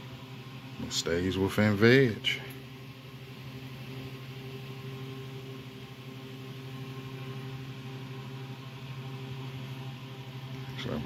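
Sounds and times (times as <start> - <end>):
buzzy electrical mains hum: 0.0 - 11.0.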